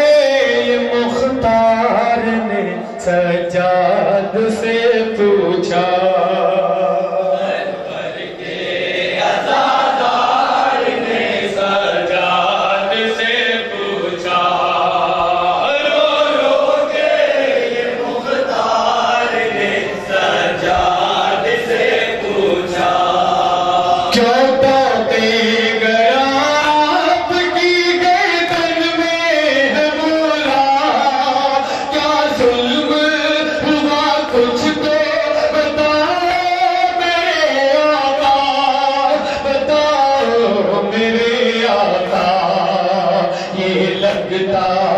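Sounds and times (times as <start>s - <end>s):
men chanting a lament: 0.0s - 44.9s.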